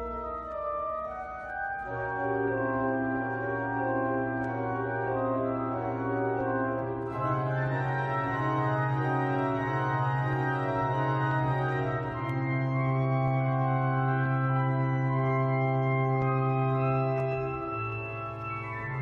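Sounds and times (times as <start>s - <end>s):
pipe organ chords: 0.2s - 19.0s.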